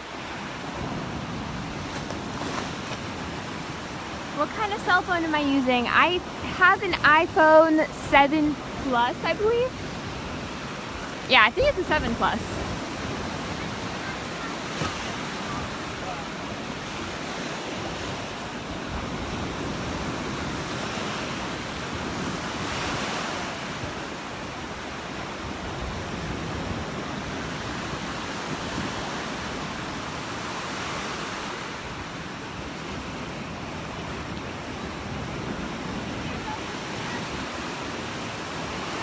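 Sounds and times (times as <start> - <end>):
ocean surf breaking: 0.0 - 39.0
wind on microphone: 0.0 - 39.0.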